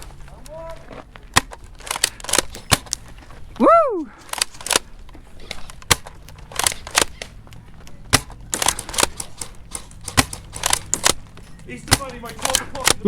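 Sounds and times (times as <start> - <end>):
airsoft guns firing: 1.3 - 3.2, 4.2 - 13.0.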